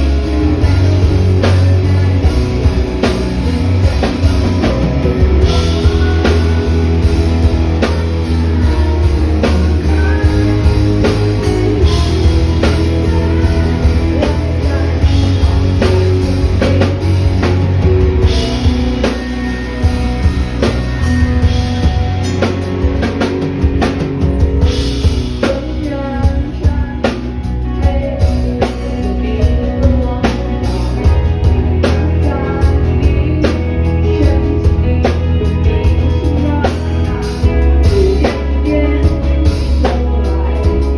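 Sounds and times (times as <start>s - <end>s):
drum kit steady beat: 0.0s - 40.9s
live rock band playing: 0.0s - 40.9s.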